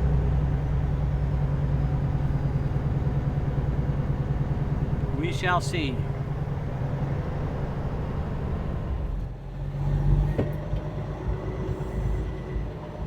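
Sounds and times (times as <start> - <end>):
truck diesel engine hum: 0.0 - 13.0.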